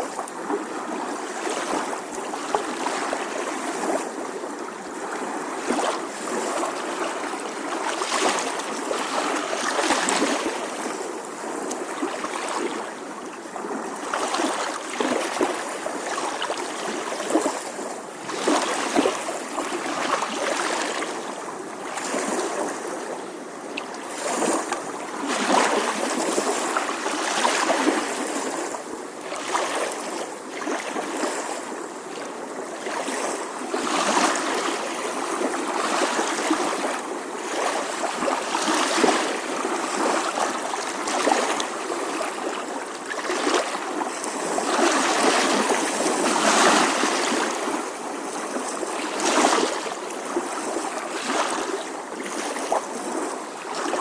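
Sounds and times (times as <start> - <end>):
gentle waves lapping on shore: 0.0 - 54.0.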